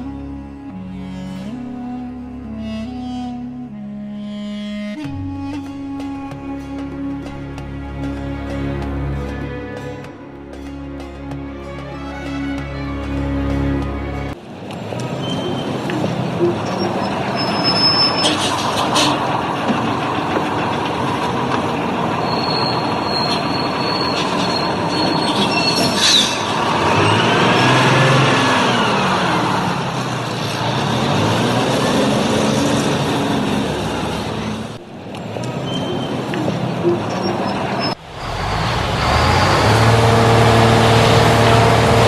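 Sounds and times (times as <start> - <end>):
dense vehicle running noise: 5.3 - 42.0.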